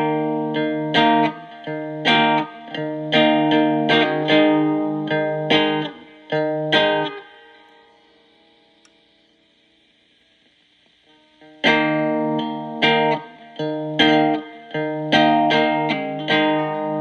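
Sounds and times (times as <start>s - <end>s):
distorted electric guitar chords: 0.0s - 17.0s.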